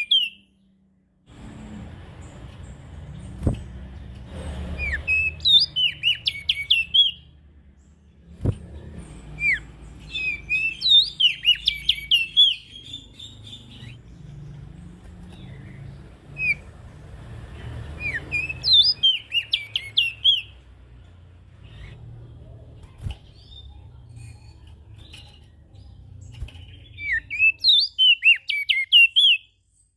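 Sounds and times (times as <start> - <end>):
songbird chirping: 0.0 - 29.9.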